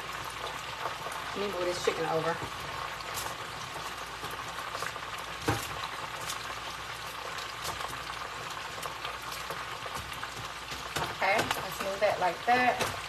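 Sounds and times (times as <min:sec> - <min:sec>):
oil bubbling and sizzling: 0:00.0 - 0:13.0.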